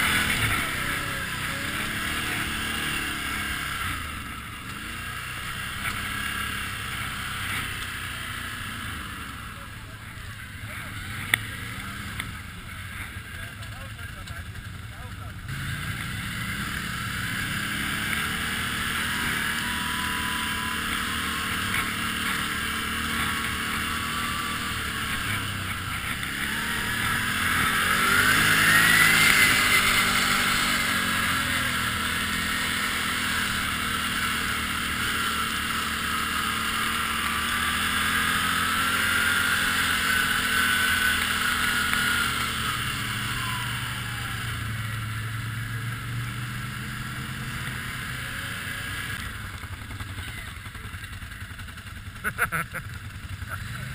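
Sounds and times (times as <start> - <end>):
atv engine revving: 0.0 - 53.9.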